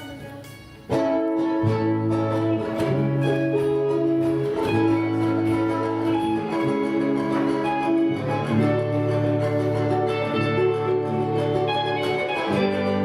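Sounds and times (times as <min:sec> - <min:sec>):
guitar and ukulele playing chords: 0:00.0 - 0:13.0.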